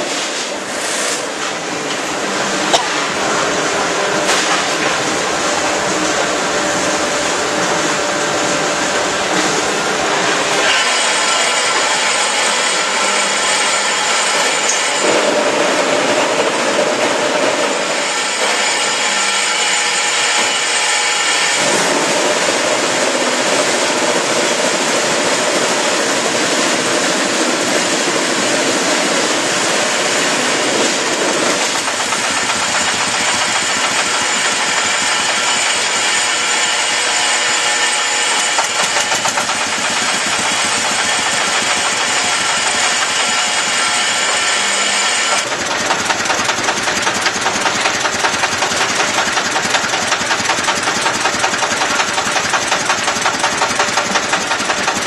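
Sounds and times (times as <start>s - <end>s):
harsh high drone: 0.0s - 53.2s
industrial machinery din: 0.0s - 55.0s.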